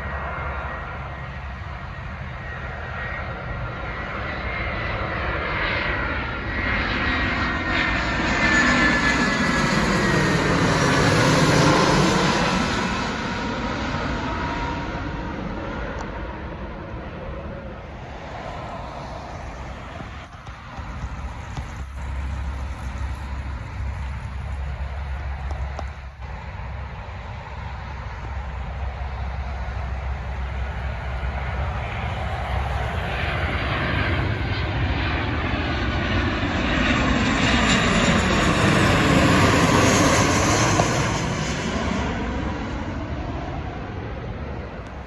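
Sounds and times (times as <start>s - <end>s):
jet airliner passing overhead: 0.0s - 45.0s.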